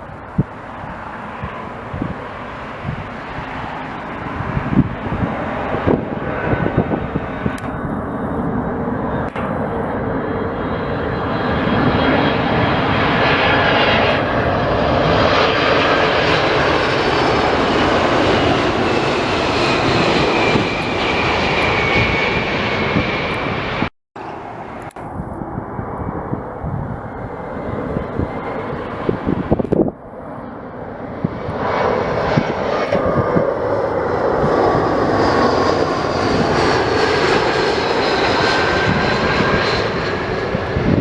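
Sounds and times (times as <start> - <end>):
jet engines passing: 0.0 - 41.0.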